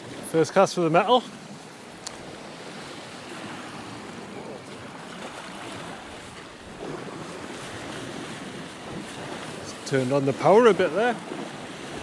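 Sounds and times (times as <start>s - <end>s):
waves washing over rocks: 0.0s - 12.0s.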